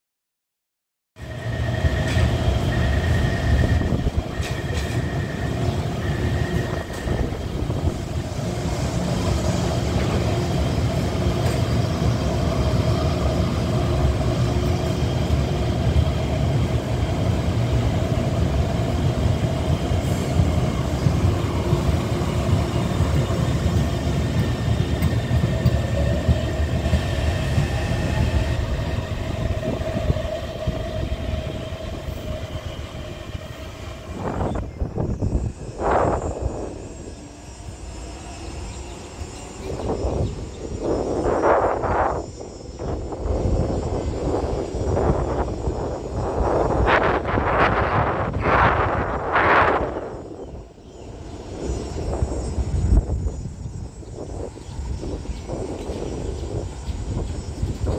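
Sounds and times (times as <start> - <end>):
train wheels rumbling on track: 1.2 - 57.9.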